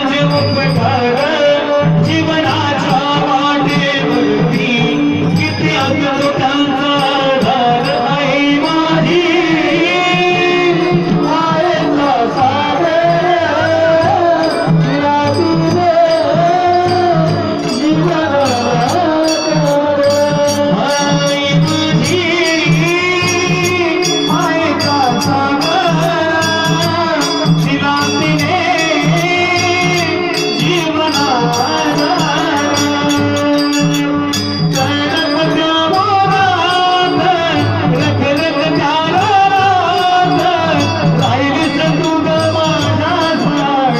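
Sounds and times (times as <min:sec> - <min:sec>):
drum beat: 0:00.0 - 0:43.9
jingling percussion: 0:00.0 - 0:43.9
person singing devotional song: 0:00.0 - 0:43.9.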